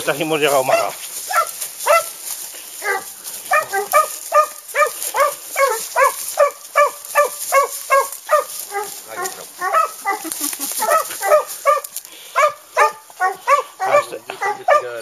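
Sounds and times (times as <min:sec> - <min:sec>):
dog yelping barks: 0:00.6 - 0:02.2, 0:02.8 - 0:15.0.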